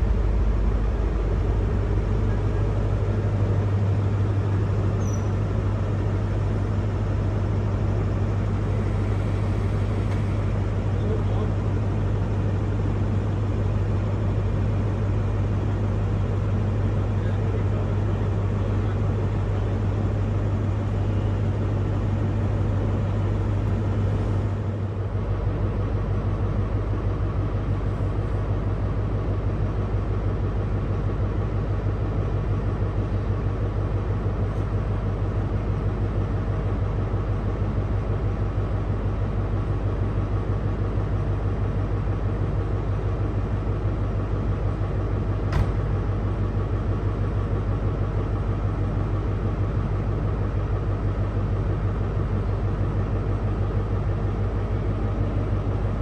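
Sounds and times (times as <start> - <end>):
diesel railway engine running: 0.0 - 56.0.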